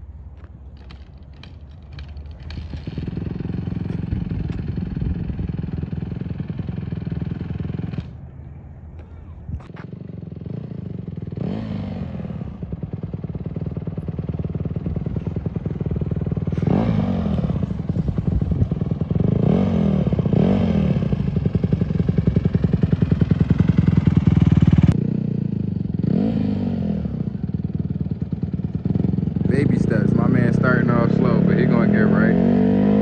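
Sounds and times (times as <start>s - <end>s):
dirt bike engine revving: 1.9s - 8.2s, 9.8s - 33.0s.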